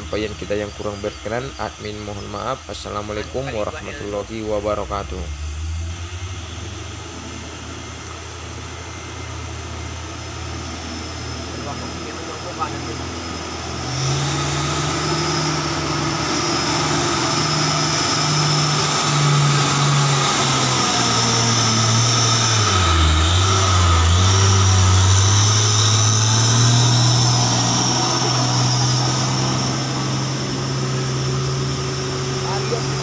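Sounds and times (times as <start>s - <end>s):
truck diesel engine pulling hard: 0.0s - 33.0s.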